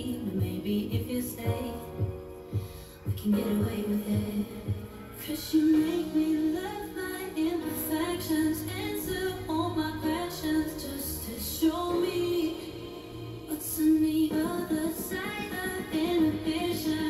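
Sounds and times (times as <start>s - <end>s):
pop backing track: 0.0s - 17.0s
woman singing: 0.0s - 17.0s.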